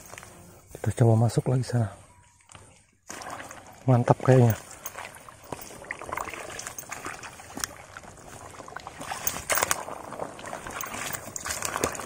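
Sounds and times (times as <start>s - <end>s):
leaves and twigs crackling underfoot: 0.0s - 12.0s.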